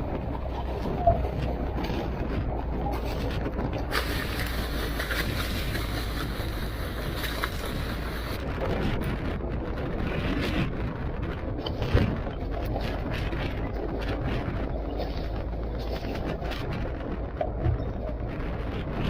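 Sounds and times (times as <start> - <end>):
boat engine running: 0.0 - 19.0
waves: 0.0 - 19.0
wind rushing: 0.0 - 19.0.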